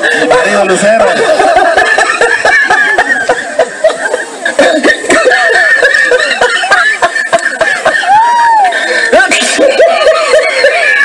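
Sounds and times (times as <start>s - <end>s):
crowd laughing: 0.0s - 11.0s.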